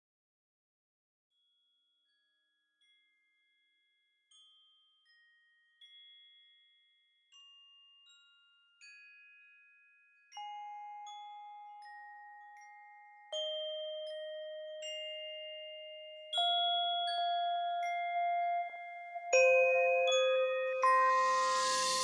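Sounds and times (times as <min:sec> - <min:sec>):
glockenspiel-like chiming melody: 0:02.1 - 0:22.0.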